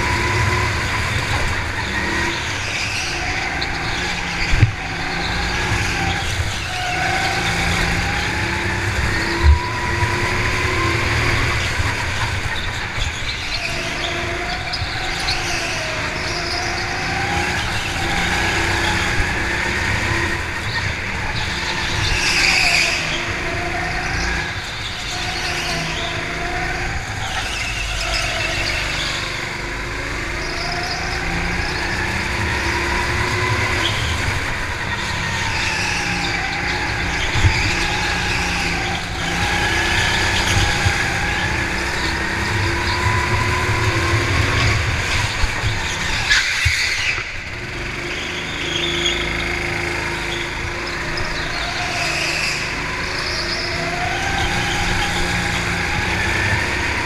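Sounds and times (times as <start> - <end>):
go-kart engine: 0.0 - 57.0.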